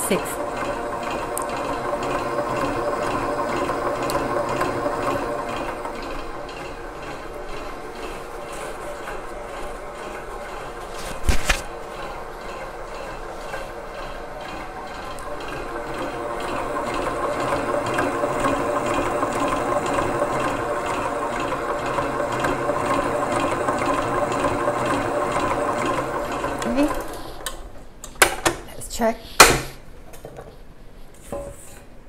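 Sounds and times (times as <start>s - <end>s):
stand mixer motor whirring: 0.0s - 27.7s.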